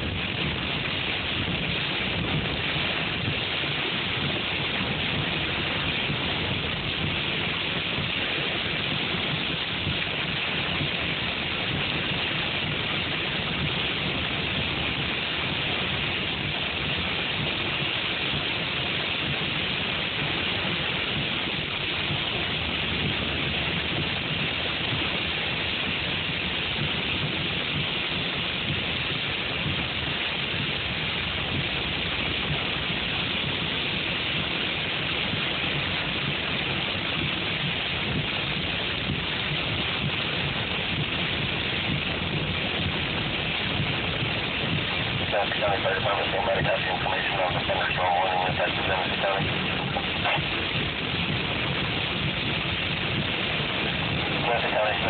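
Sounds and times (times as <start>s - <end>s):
hail and rain on car roof: 0.0s - 55.0s.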